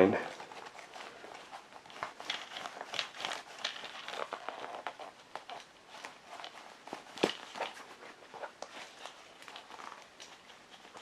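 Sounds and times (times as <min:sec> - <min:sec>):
shoe rustling and creaking: 0:00.0 - 0:11.0.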